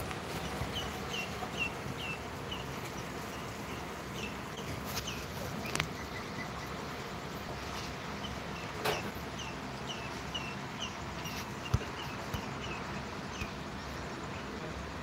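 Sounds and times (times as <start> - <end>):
small bird chirping: 0.1 - 14.5.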